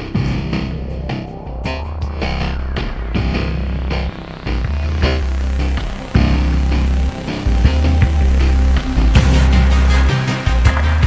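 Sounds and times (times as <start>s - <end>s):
heavy bass music with beat: 0.0s - 11.0s.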